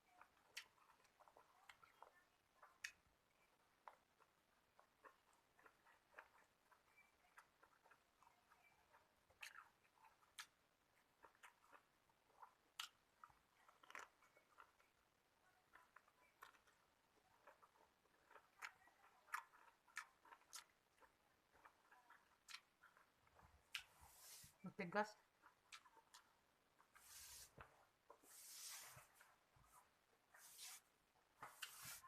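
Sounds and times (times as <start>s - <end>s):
person chewing food: 0.0s - 24.6s, 25.2s - 32.0s.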